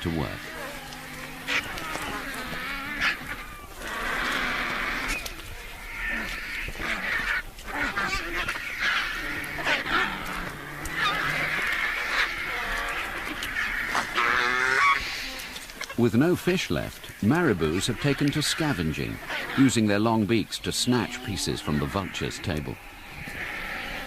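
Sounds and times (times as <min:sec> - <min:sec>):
vultures hissing and squealing: 0:00.0 - 0:24.0.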